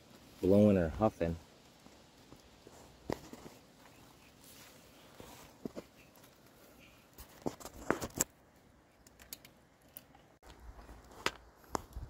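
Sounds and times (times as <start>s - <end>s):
faint handling clicks and rustling: 1.7s - 12.0s.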